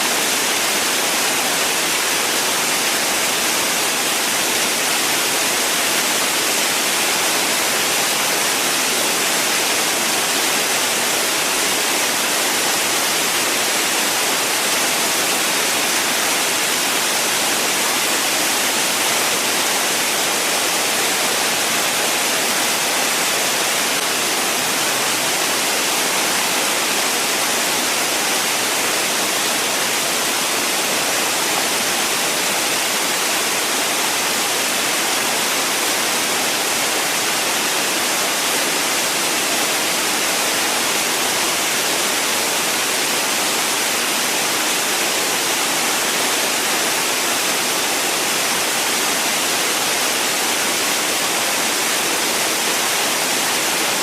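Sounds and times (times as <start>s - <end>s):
waterfall rushing and splashing: 0.0s - 54.0s.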